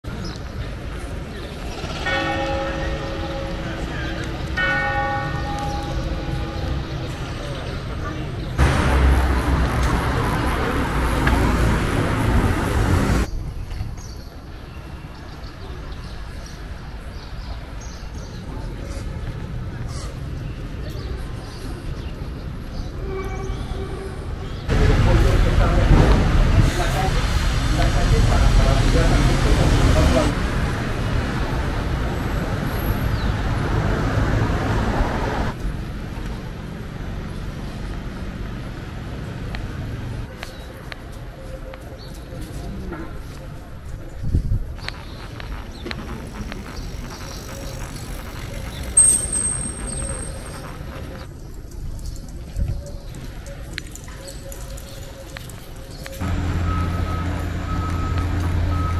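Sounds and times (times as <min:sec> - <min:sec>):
city street rumble: 0:00.0 - 0:58.9
road traffic noise: 0:00.0 - 0:58.9.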